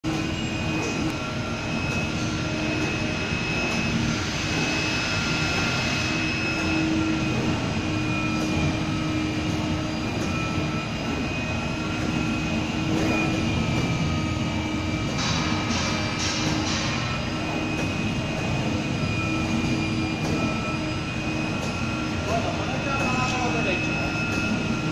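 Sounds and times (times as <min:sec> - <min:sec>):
cutting machine drone with whine: 0:00.0 - 0:24.9.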